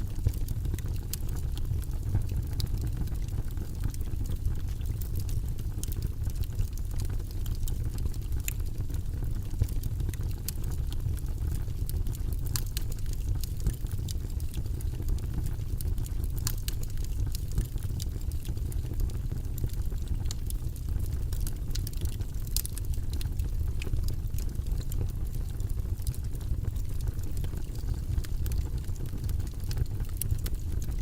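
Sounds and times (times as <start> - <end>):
low rumbling background noise: 0.0 - 31.0.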